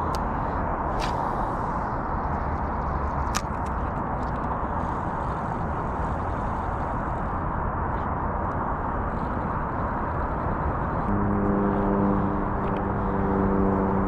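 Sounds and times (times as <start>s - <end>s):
car road noise rumble: 0.0s - 14.0s
low humming tone with overtones: 0.0s - 14.0s.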